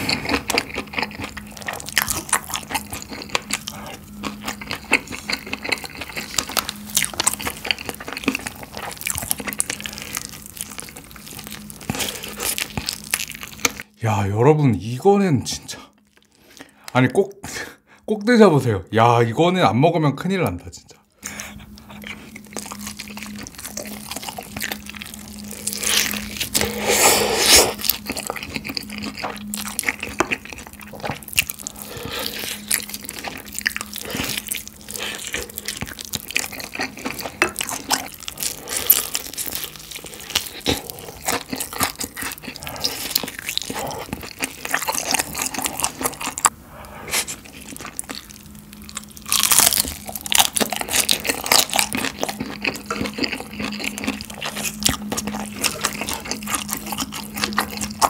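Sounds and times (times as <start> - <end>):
crunching and chewing food: 0.0 - 14.0, 14.7 - 17.4, 21.2 - 58.0.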